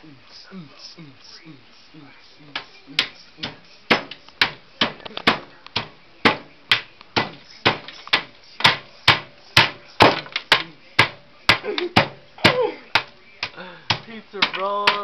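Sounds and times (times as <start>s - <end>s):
hammer striking hard food: 3.0s - 15.0s.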